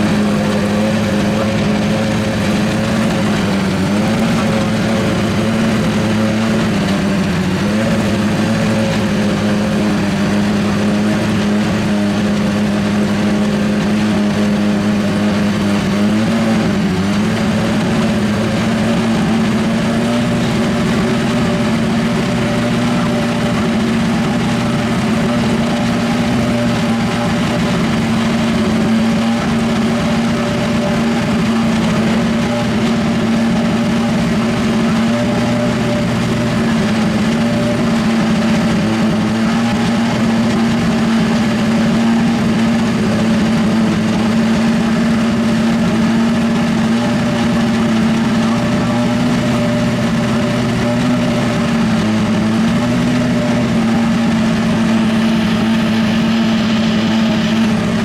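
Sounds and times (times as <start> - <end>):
race car engine idling: 0.0 - 58.0.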